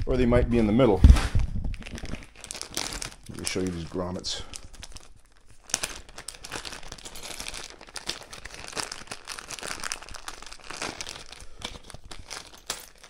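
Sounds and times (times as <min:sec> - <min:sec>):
packaging crinkling and rustling: 0:01.0 - 0:13.0.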